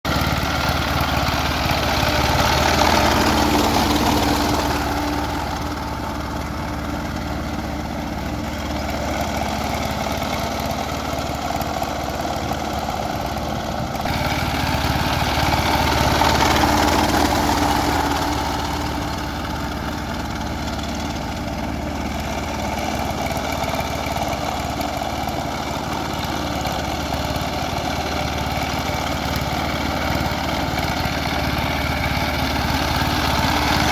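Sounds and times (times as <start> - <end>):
diesel engine running steadily: 0.1 - 33.9.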